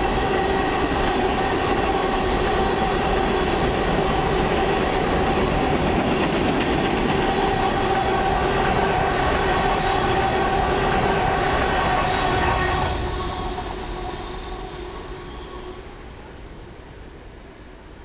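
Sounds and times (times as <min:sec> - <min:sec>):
steel wheels ringing whine: 0:00.0 - 0:16.7
freight train rolling by: 0:00.0 - 0:18.0.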